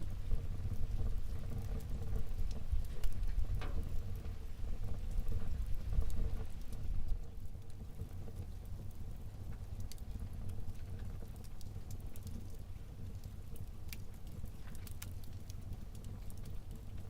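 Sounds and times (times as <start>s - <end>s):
wood fire rumbling and crackling: 0.0s - 17.0s.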